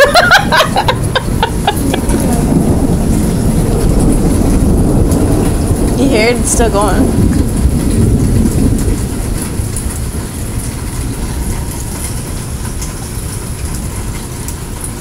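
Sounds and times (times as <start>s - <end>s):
rolling thunder: 0.0s - 14.2s.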